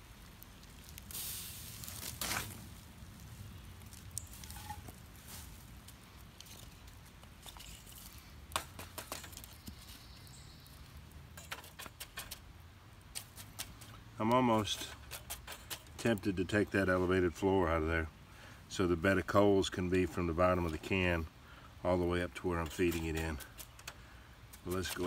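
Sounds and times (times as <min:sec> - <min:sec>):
wood fire burning: 0:00.0 - 0:25.0.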